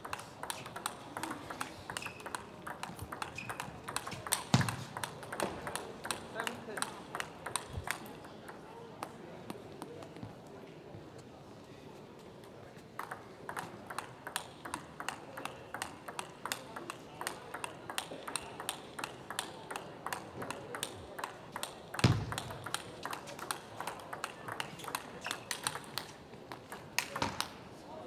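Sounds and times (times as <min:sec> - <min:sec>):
table tennis ball clicking: 0:00.0 - 0:09.2, 0:13.0 - 0:27.6.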